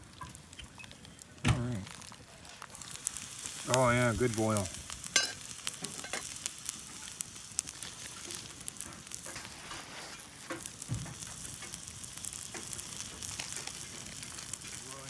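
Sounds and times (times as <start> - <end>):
burning wood crackling: 0.0 - 15.0
water boiling and bubbling: 0.0 - 15.0.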